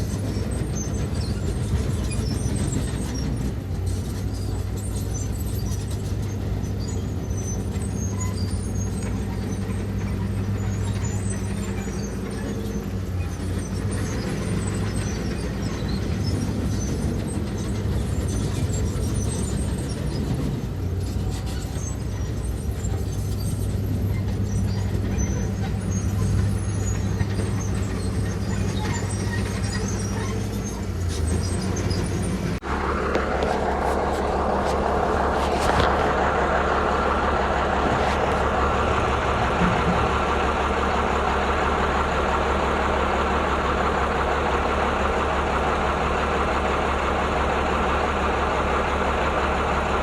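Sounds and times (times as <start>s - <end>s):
diesel earthmover engine running: 0.0s - 50.0s
higher engine sound: 0.0s - 50.0s.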